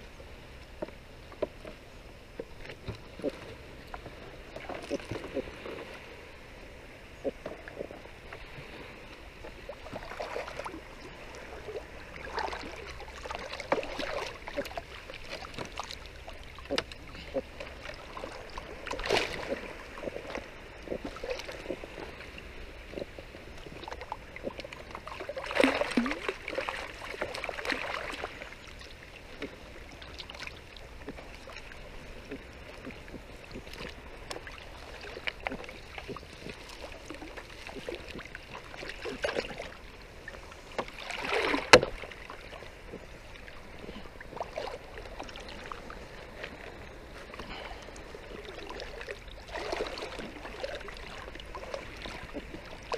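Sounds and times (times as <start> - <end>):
water sloshing and splashing: 0.0 - 52.9.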